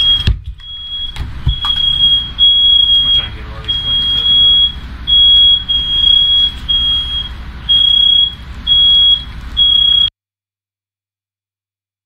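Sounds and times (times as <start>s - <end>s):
smoke alarm beeping: 0.0s - 10.1s.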